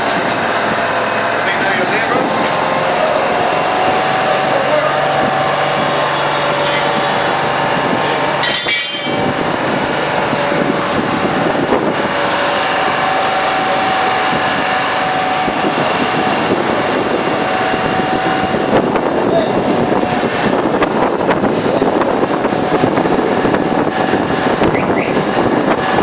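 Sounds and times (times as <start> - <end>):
vehicle engines on street: 0.0 - 26.0.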